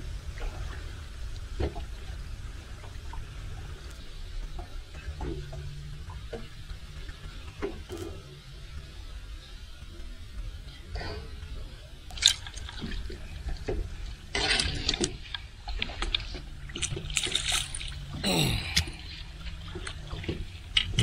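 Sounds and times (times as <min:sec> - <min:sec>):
water lapping against boat hull: 0:00.0 - 0:09.2, 0:09.8 - 0:21.0.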